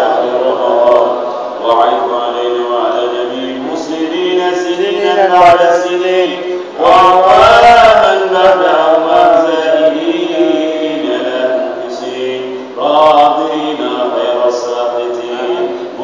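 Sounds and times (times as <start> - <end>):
men chanting melodically: 0.0 - 16.0.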